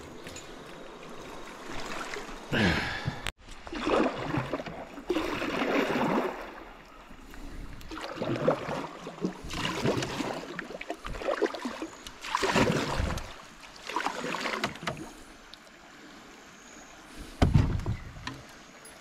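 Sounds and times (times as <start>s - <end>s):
canoe paddle strokes in water: 0.0s - 15.6s
water washing along hull: 0.0s - 15.7s.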